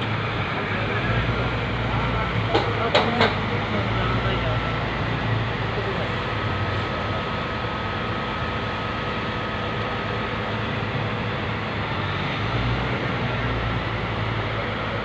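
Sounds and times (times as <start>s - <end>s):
heavy machine engine hum: 0.0s - 15.0s.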